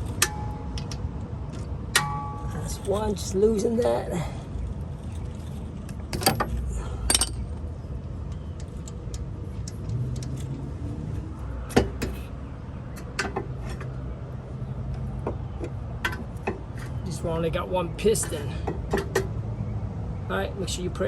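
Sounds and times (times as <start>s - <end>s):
low steady hum: 0.0s - 18.4s.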